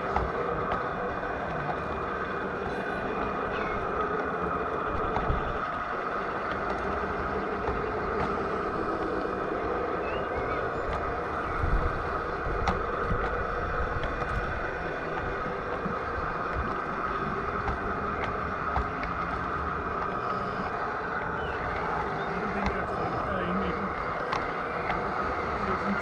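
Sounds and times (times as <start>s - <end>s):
model train running on track: 0.0s - 26.0s.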